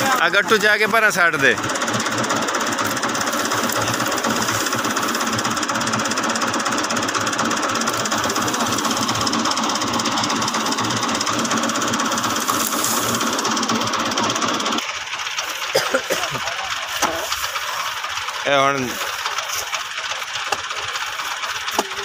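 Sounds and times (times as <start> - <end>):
thresher and tractor engine rattling: 0.0 - 22.0.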